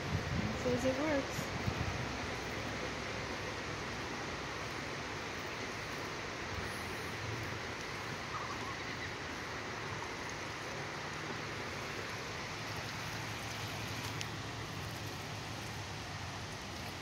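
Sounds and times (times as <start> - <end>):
even hiss: 0.0 - 17.0.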